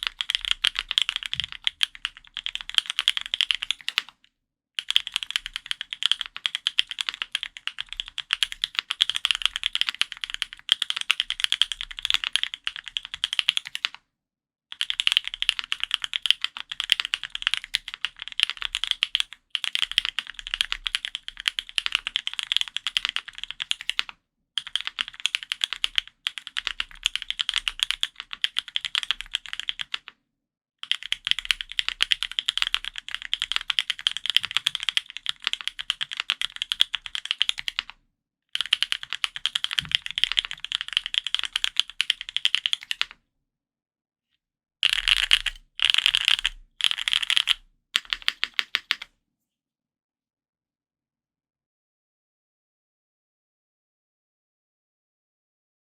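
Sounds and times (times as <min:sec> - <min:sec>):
typing on mechanical keyboard: 0:00.0 - 0:04.2, 0:04.8 - 0:14.0, 0:14.7 - 0:30.2, 0:30.8 - 0:38.0, 0:38.6 - 0:43.2, 0:44.8 - 0:49.1.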